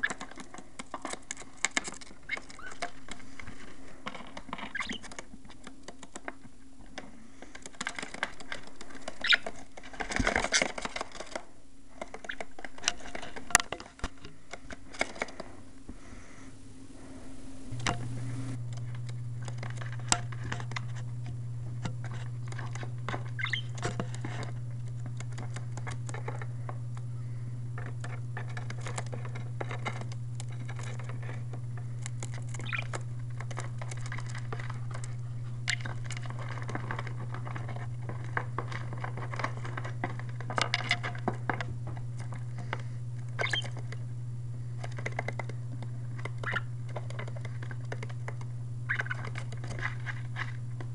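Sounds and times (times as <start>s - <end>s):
budgies tapping and scratching: 0.0s - 50.9s
steady low hum: 0.0s - 50.9s.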